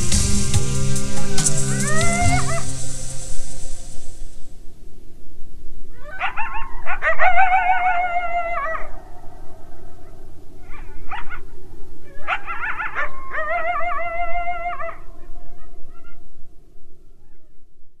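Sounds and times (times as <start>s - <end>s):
coyotes yipping and howling: 0.0s - 4.2s, 5.9s - 17.7s.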